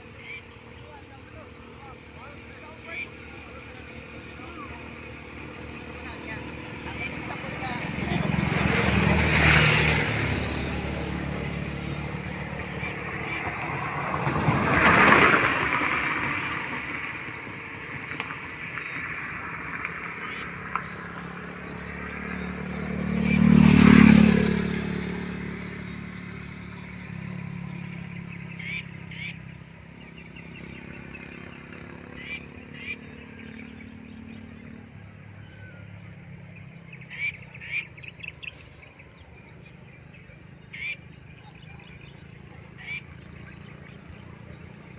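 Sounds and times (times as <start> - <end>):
high insect trill: 0.0 - 44.9
motor vehicles passing by: 0.0 - 44.9.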